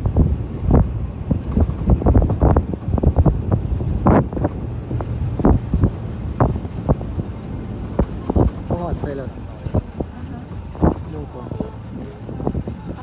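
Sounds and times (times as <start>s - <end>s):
knocks and rattles: 0.0s - 13.0s
wind buffeting microphone: 0.0s - 13.0s.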